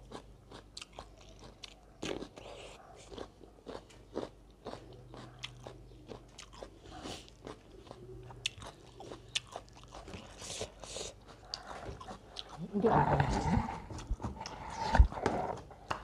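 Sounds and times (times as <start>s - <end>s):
crunchy chewing of cucumber: 0.0s - 16.0s
faint low hum: 0.0s - 16.0s.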